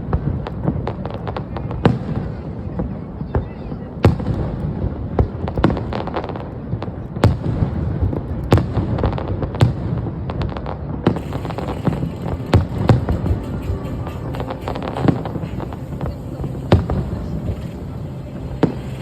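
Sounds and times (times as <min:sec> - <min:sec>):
constant low rumble: 0:00.0 - 0:19.0
firework bangs: 0:00.0 - 0:19.0
firework crackling: 0:00.0 - 0:19.0.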